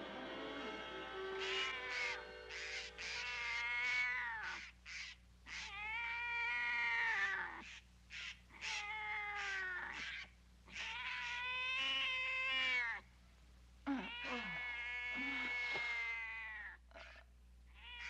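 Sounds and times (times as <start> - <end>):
cats yowling: 1.4 - 13.0, 13.9 - 18.0
short cat cries: 1.4 - 13.0, 13.9 - 17.2, 17.8 - 18.0.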